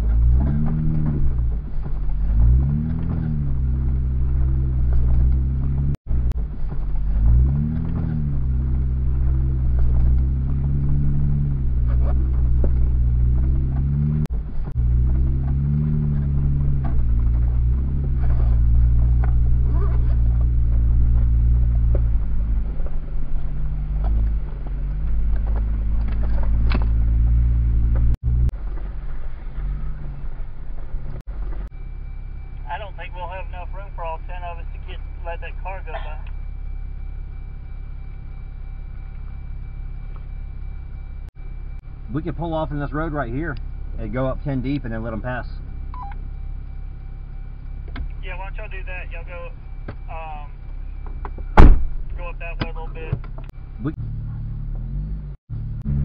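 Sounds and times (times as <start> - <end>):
car engine revving: 0.0 - 31.8, 38.0 - 56.0.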